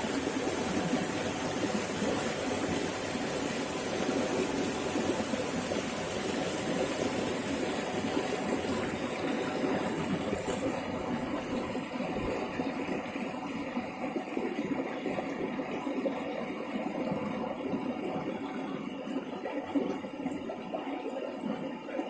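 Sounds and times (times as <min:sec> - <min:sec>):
water rushing: 0:00.0 - 0:18.5.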